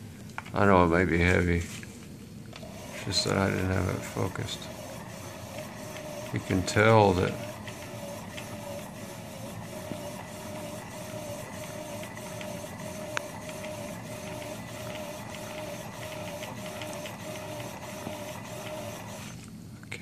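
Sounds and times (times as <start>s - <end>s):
hub motor whine: 2.6s - 19.4s.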